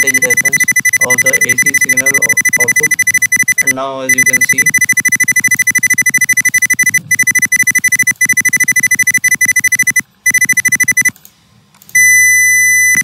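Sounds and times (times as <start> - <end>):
high-pitched test tone: 0.0 - 11.1.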